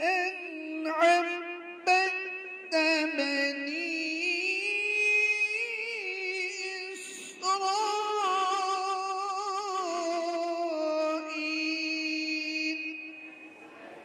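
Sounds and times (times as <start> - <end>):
man chanting: 0.0 - 13.5.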